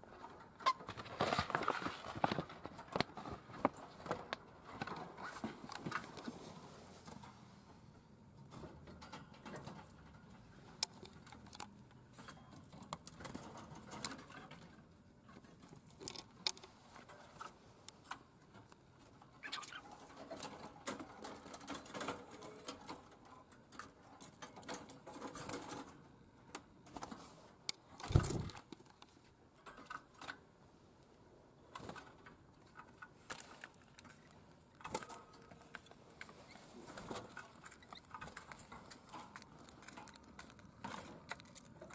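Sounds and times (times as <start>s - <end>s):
clicks and rustles: 0.1s - 7.4s, 8.3s - 30.5s, 31.7s - 41.9s.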